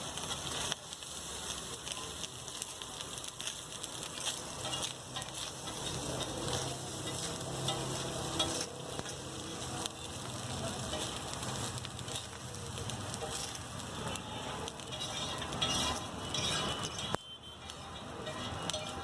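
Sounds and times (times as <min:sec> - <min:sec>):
rice sizzling on a griddle: 0:00.0 - 0:19.0
metal spatula clicks and scrapes: 0:00.1 - 0:19.0.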